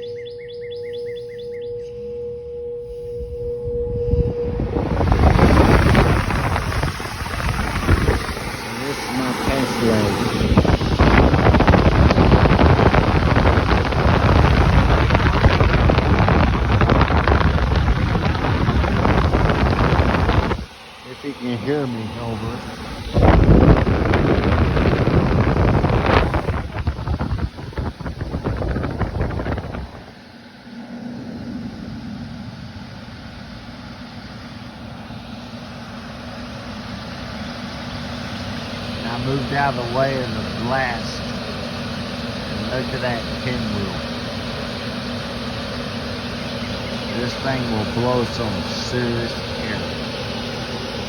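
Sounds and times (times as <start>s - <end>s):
furnace blower rushing: 2.8s - 51.0s
air buffeting microphone: 2.9s - 51.0s.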